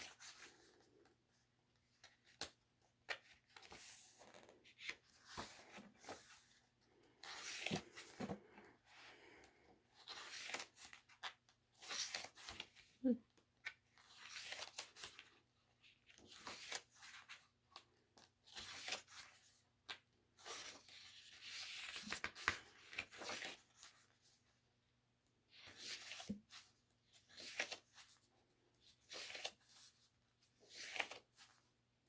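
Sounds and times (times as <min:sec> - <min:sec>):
paper pages turning: 0:00.0 - 0:01.1, 0:01.8 - 0:08.7, 0:10.0 - 0:12.9, 0:13.6 - 0:24.1, 0:25.6 - 0:28.2, 0:28.8 - 0:31.7.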